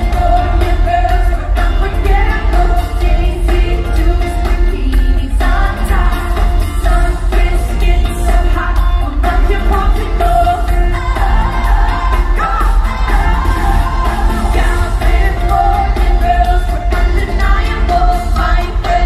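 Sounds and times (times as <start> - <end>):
pop song with woman singing: 0.0 - 19.0.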